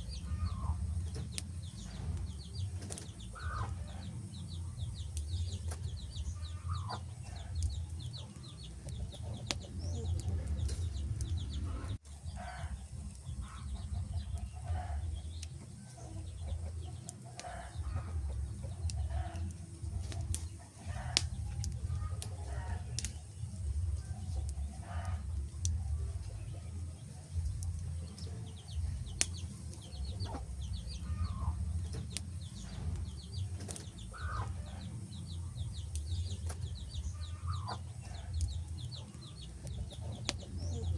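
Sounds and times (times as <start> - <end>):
hen clucking: 0.0 - 40.9
wood fire crackling: 0.0 - 40.9.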